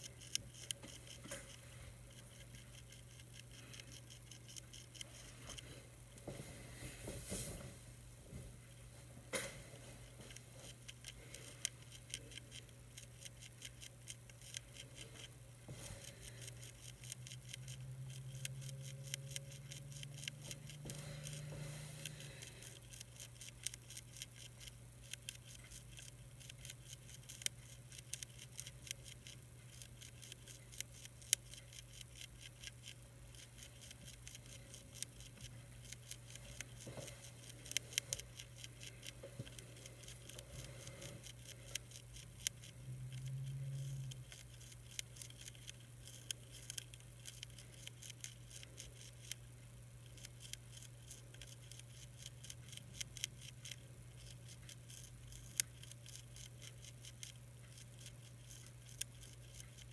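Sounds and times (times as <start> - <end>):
caterpillar chewing leaf: 0.0 - 5.8, 10.0 - 59.9
steady low hum: 0.0 - 59.9.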